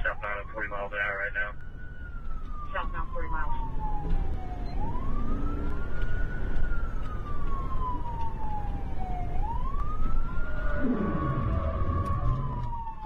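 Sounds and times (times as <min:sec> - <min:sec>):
engine and wind rumble: 0:00.0 - 0:13.0
police siren wailing: 0:00.0 - 0:13.0.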